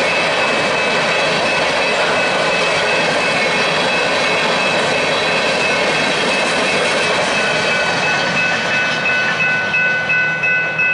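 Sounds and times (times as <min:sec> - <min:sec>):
crossing warning bells ringing: 0:00.0 - 0:10.9
train wheels rolling on rails: 0:00.0 - 0:10.9.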